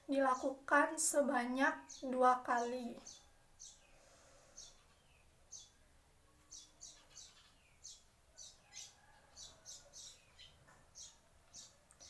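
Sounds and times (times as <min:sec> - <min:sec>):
small bird chirping: 0:01.5 - 0:12.0.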